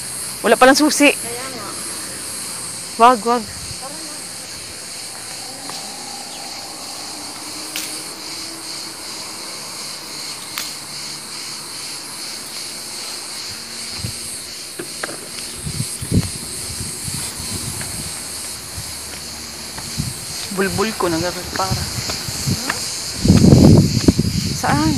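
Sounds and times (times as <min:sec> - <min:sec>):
insects buzzing: 0:00.0 - 0:24.9.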